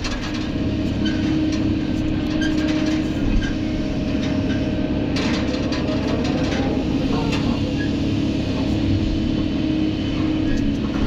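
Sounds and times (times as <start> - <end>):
excavator engine and hydraulics: 0.0 - 11.0.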